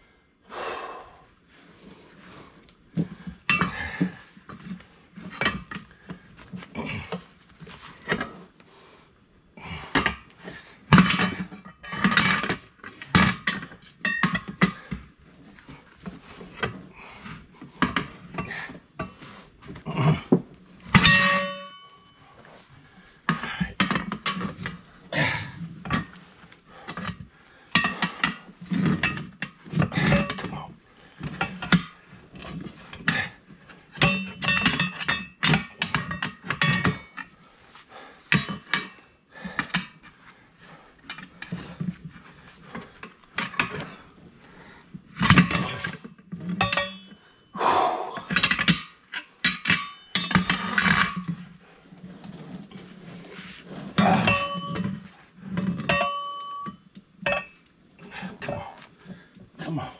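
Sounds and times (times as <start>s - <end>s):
tire irons clanking on metal rim: 3.0s - 8.4s, 9.7s - 22.6s, 23.3s - 37.4s, 38.3s - 40.1s, 40.7s - 51.5s, 52.7s - 59.9s.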